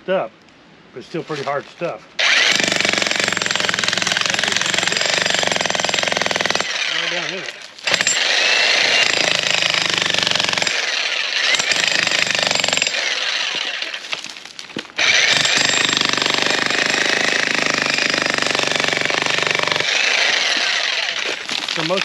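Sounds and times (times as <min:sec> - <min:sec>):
demolition hammer pounding rock: 0:02.3 - 0:14.0, 0:15.0 - 0:22.0.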